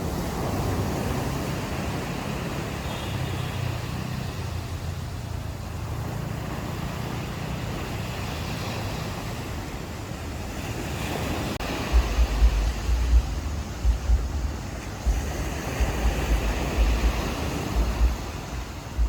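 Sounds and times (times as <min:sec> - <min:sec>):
ocean waves on a beach: 0:00.0 - 0:19.0
wind buffeting microphone: 0:03.6 - 0:19.0.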